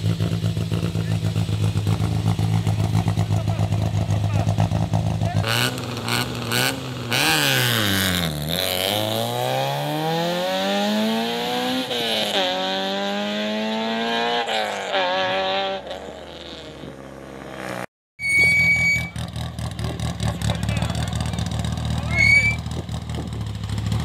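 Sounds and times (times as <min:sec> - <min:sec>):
rally car engine accelerating: 0:00.0 - 0:17.9, 0:18.8 - 0:24.0.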